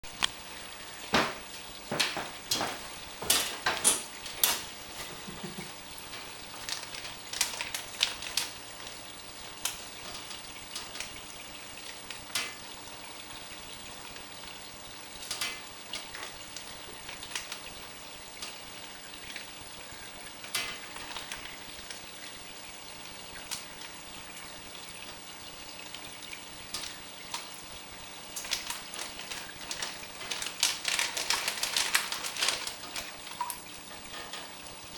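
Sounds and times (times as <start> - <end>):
water splashing and dripping: 0.1 - 34.9.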